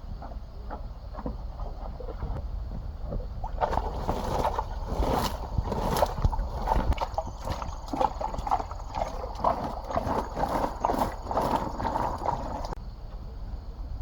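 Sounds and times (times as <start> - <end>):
water splashing and sloshing: 0.1 - 12.8.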